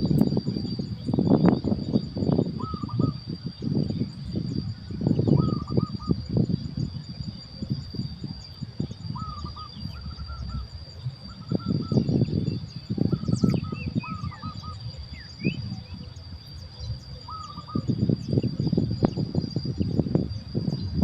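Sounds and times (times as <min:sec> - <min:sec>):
high-pitched whine: 0:00.0 - 0:21.0
birds calling: 0:00.6 - 0:04.1, 0:04.8 - 0:07.6, 0:08.8 - 0:19.7.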